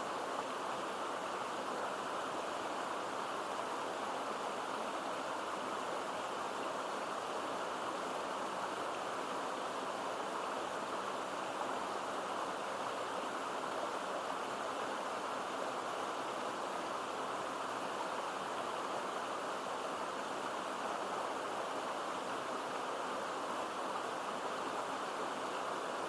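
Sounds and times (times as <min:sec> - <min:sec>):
stream water rushing and babbling: 0:00.0 - 0:26.0.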